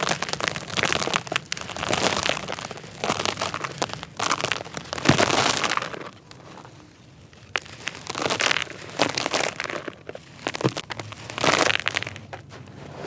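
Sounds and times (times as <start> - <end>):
bricks crumbling and crunching: 0.0 - 13.0.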